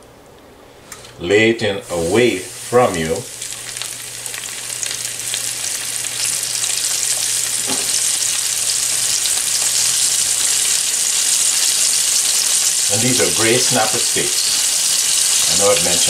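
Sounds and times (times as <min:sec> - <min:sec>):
fish sizzling in hot oil: 0:01.8 - 0:16.0.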